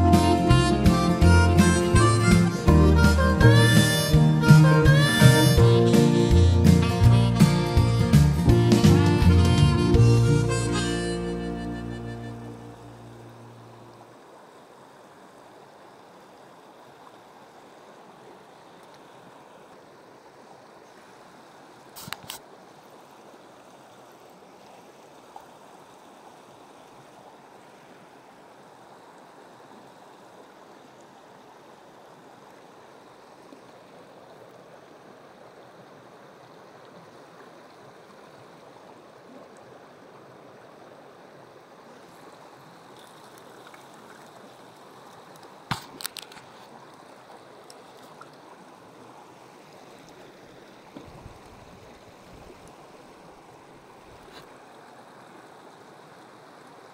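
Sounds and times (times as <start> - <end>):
creek running over rocks: 0.0 - 56.9.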